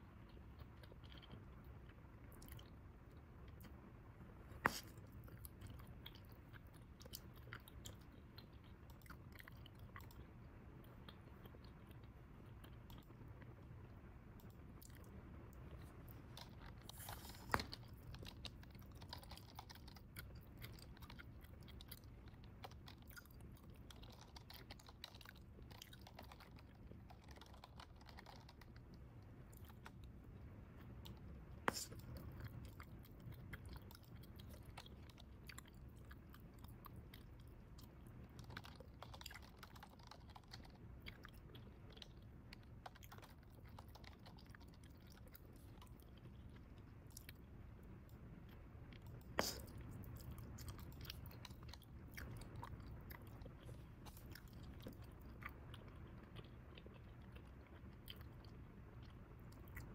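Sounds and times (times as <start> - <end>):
gum chewing mouth clicks: 4.5 - 59.9.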